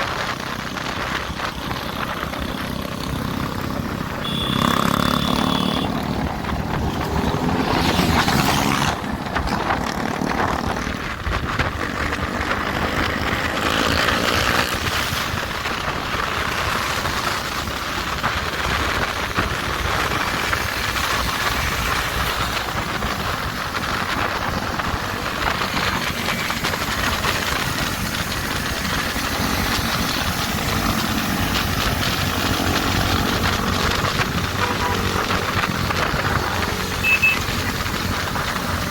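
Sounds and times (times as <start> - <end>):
wind rush on microphone: 0.0 - 4.3, 5.8 - 38.9
motorcycle engines: 0.0 - 38.9.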